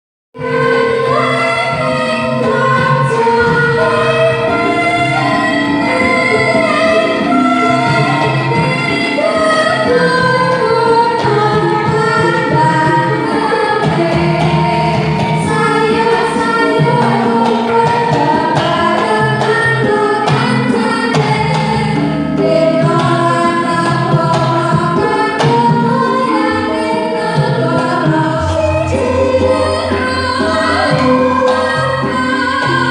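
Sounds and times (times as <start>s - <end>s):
gamelan music: 0.4s - 32.9s
woman singing: 0.4s - 32.9s.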